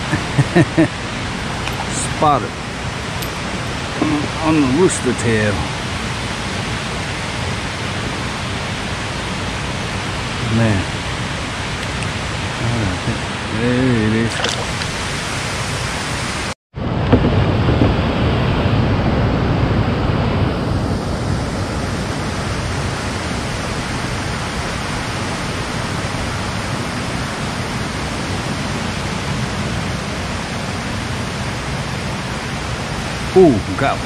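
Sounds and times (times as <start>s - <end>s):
water roaring below a dam: 0.0s - 34.0s.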